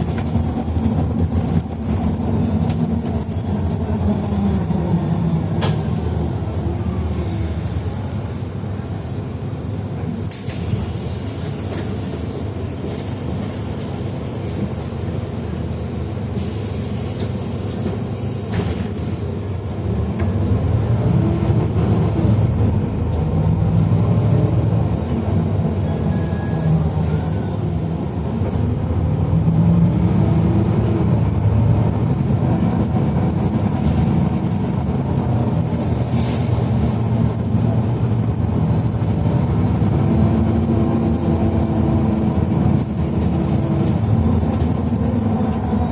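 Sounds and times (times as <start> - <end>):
vehicle engine and road rumble: 0.0 - 45.9.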